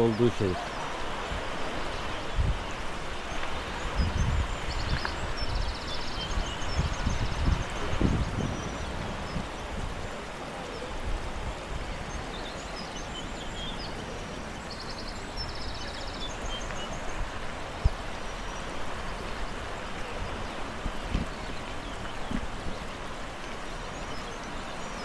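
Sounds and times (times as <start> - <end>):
running water rushing: 0.0 - 25.0
small birds chirping: 0.0 - 25.0.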